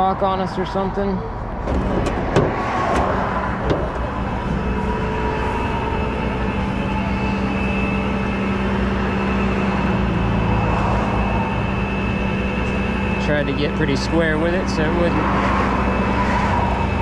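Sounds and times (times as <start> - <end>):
truck engine droning: 0.0 - 17.0
faint steady whine: 3.0 - 17.0.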